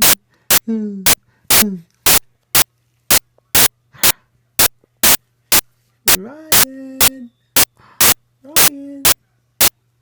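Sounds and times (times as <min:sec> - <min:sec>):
sharp static crackles: 0:00.0 - 0:09.8.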